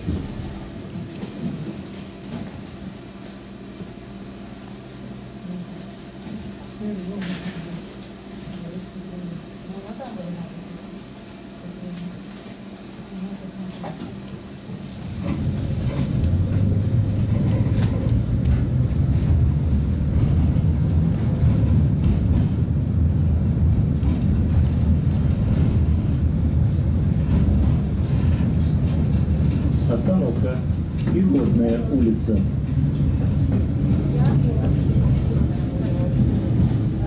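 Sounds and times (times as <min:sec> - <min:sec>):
tram hum: 0:00.0 - 0:37.0
tram wheels rumbling: 0:00.0 - 0:37.0.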